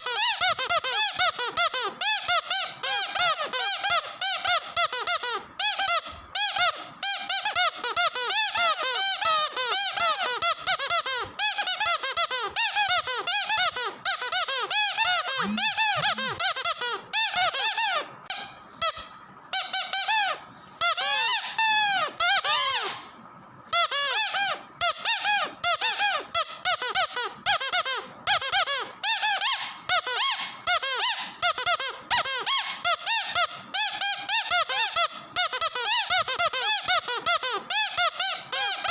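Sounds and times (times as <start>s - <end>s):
squeaky dog toy squeaking: 0.0s - 38.9s.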